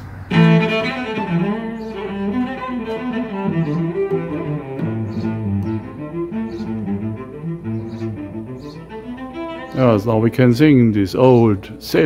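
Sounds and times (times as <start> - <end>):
cello melody: 0.3 - 10.6.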